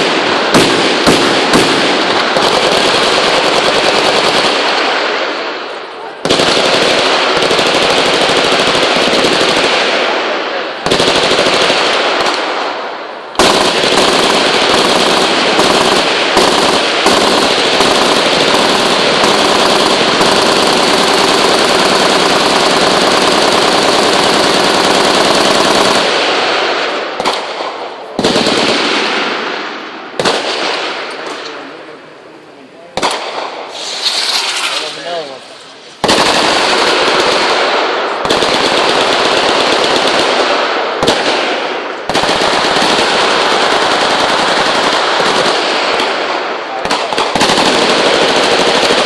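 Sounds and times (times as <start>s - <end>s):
machine gun firing bursts: 0.0s - 5.3s, 6.2s - 12.7s, 13.4s - 29.4s, 30.2s - 30.9s, 36.0s - 49.0s.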